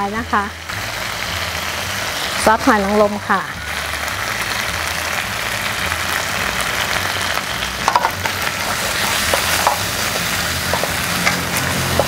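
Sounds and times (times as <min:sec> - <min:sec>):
fish and garlic sizzling in oil: 0:00.0 - 0:12.0.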